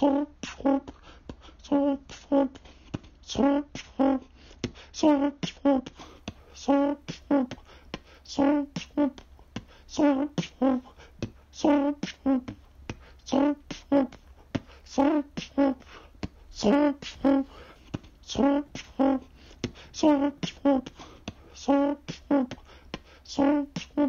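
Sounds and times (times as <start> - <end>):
looped beat with vocal-like notes: 0.0 - 24.0.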